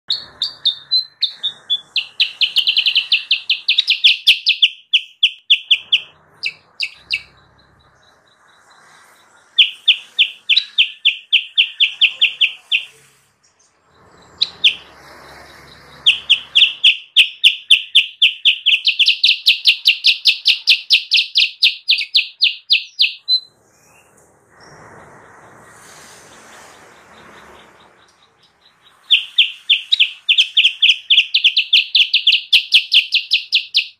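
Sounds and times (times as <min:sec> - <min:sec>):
bird rapid chirping: 0:00.1 - 0:33.9.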